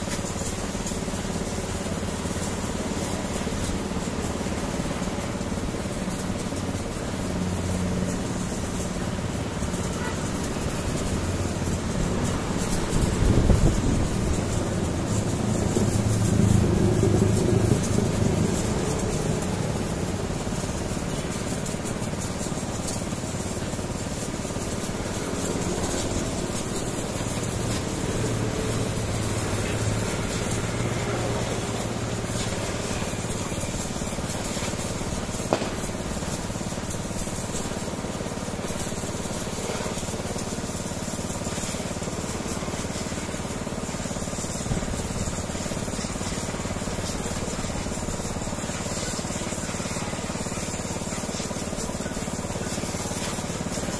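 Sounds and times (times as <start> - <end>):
pressure washer motor hum: 0.0 - 53.9
water jet hissing: 0.0 - 53.9.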